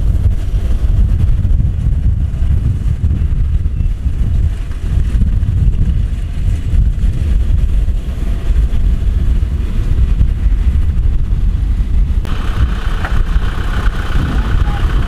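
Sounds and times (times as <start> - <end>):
combine harvester diesel engine: 0.0 - 15.0
tractor engine: 0.0 - 15.0
wind rumbling on microphone: 0.0 - 15.0.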